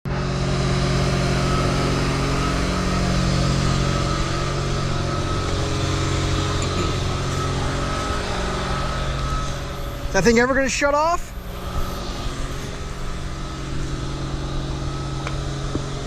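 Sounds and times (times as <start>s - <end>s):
machine humming with high whine: 0.1s - 16.0s.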